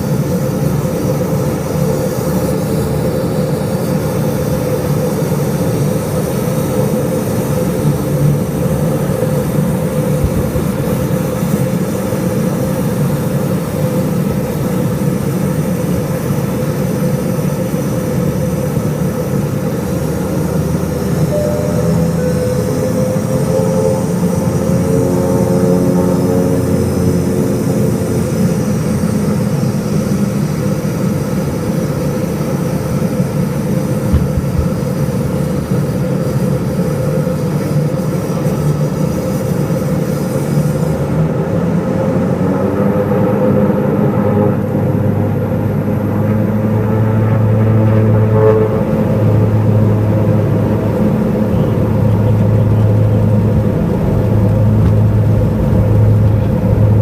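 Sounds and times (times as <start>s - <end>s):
plane engines during takeoff: 0.0s - 57.0s.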